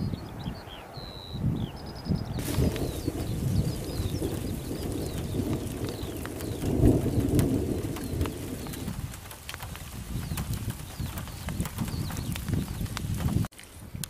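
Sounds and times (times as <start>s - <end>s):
birds chirping: 0.0s - 14.0s
animal running through long grass: 2.4s - 14.0s.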